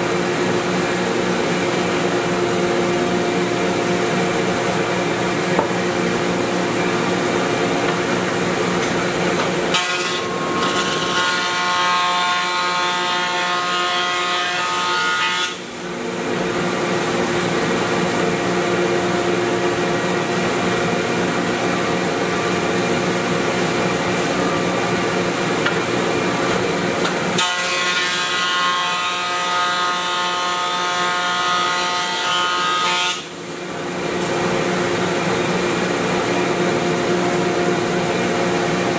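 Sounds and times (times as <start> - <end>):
planer and dust collector running: 0.0 - 38.9
planer whining cutting board: 0.0 - 38.9.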